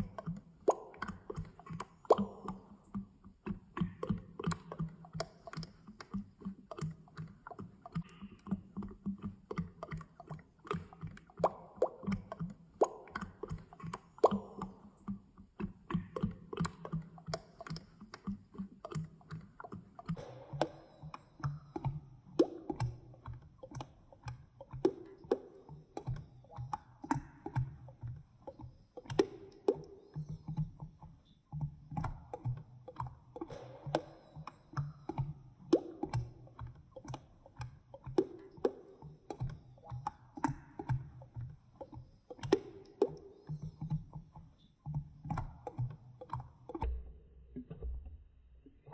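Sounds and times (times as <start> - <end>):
oil sloshing with wet plops: 0.0 - 47.0.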